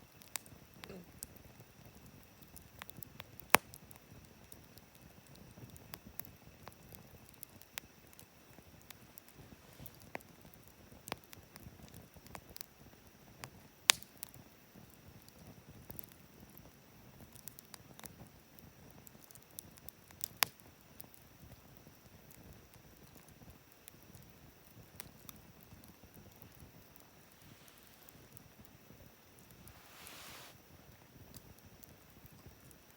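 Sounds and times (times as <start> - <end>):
campfire crackling: 0.0 - 32.9
sharp fire pops: 0.1 - 32.9.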